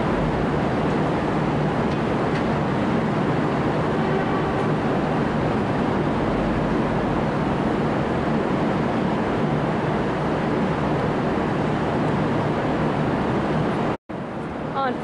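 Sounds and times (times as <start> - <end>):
diesel railcars rumbling: 0.0 - 15.0.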